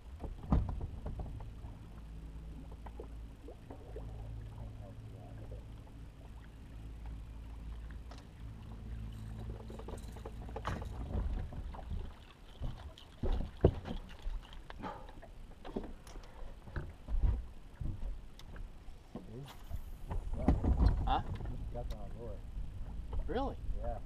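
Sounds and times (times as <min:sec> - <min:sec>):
knocks and clatter on a boat: 0:00.0 - 0:05.6, 0:07.0 - 0:23.8
low steady hum: 0:00.0 - 0:24.0.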